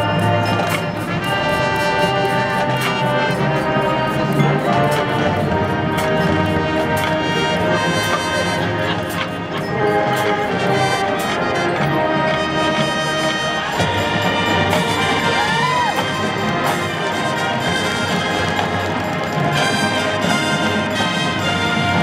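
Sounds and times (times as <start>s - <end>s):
brass held notes: 0.0s - 22.0s
marching band playing: 0.0s - 22.0s.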